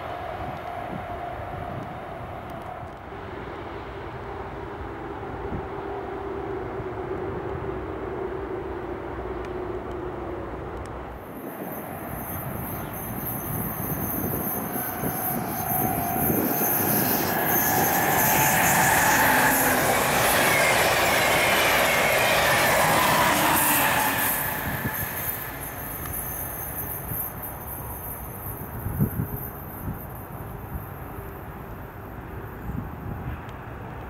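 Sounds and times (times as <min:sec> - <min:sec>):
electric train passing at speed: 0:00.0 - 0:34.0.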